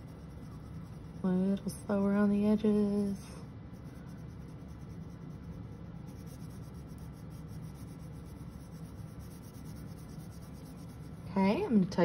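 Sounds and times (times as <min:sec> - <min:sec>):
crayon rubbing on paper: 0:00.0 - 0:11.6.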